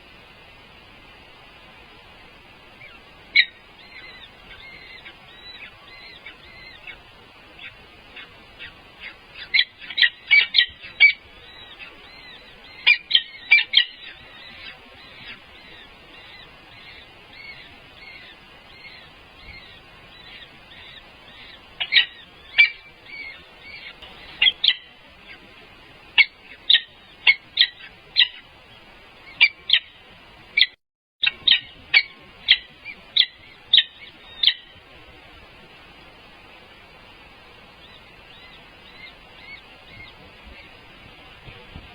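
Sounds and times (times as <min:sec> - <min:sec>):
birds chirping: 0:00.0 - 0:41.9
faint bird calls: 0:00.0 - 0:41.9.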